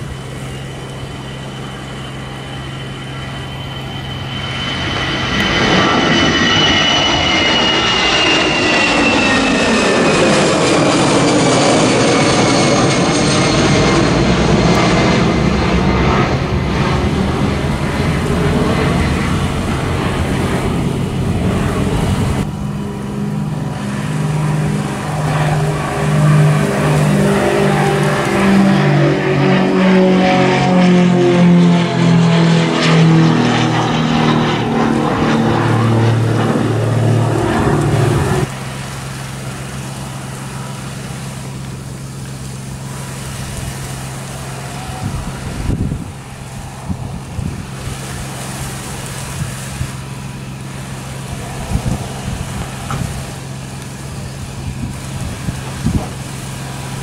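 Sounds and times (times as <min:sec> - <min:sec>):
jet engines climbing out: 0:00.0 - 0:57.0
jet taxiing: 0:00.0 - 0:57.0
turboprop airliner passing: 0:00.0 - 0:57.0.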